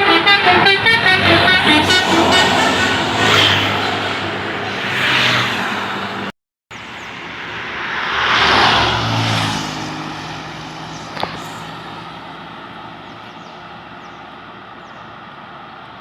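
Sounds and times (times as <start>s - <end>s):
buses passing close by: 0.0s - 16.0s.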